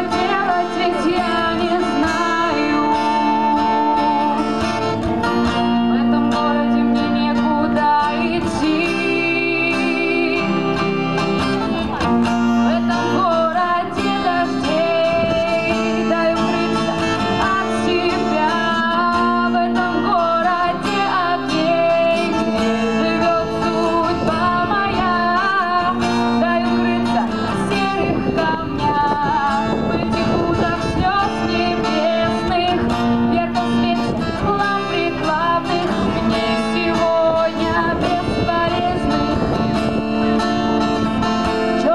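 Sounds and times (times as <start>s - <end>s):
young woman singing: 0.0s - 11.2s, 12.0s - 41.9s
guitar: 0.0s - 41.9s.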